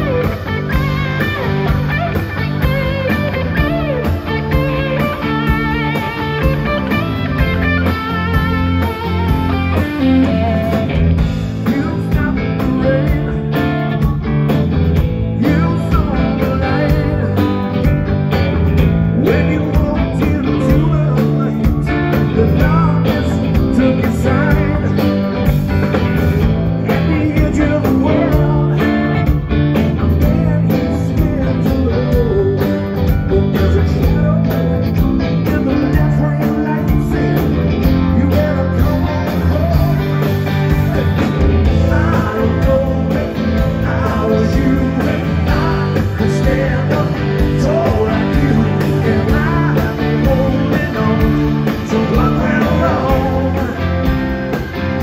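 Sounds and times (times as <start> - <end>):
blues-rock band playing live: 0.0 - 55.0
electric guitar: 0.0 - 55.0.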